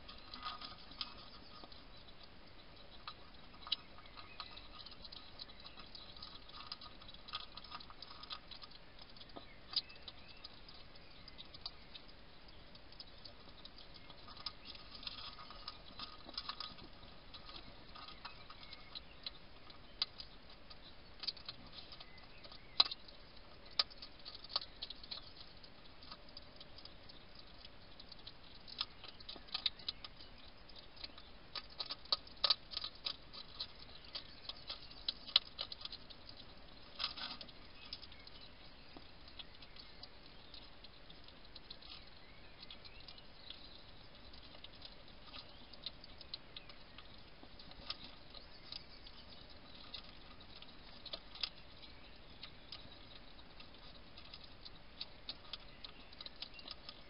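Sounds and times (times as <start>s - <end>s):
hedgehog crunching dry food: 0.0s - 57.0s.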